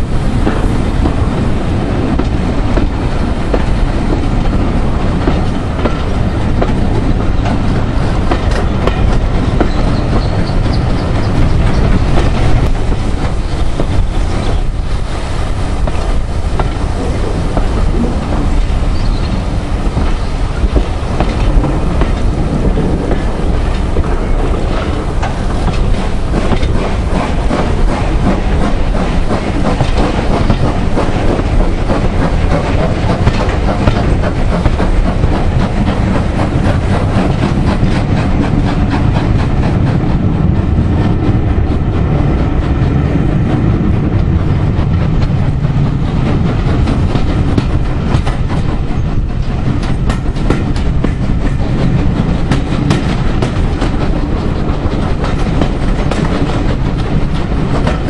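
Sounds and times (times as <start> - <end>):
train wheels clicking over rail joints: 0.0 - 58.0.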